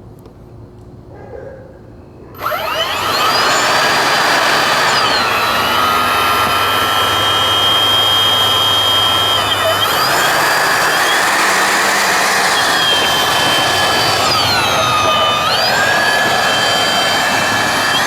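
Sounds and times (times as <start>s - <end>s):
electric ducted fans whining: 2.2s - 18.0s.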